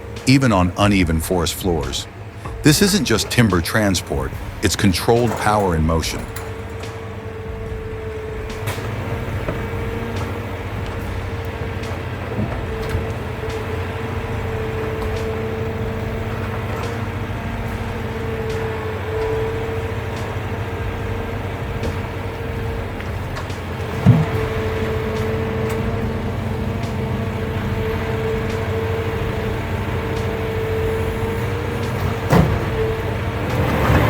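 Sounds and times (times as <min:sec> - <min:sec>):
forestry machine engine rumbling: 0:00.0 - 0:34.0.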